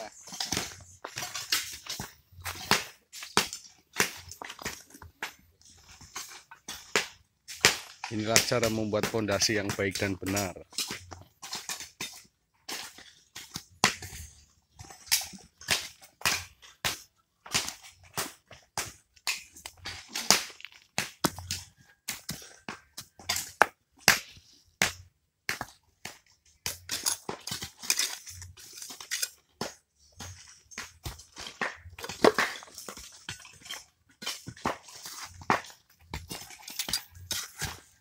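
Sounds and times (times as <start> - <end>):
stones knocking: 0.1 - 37.9.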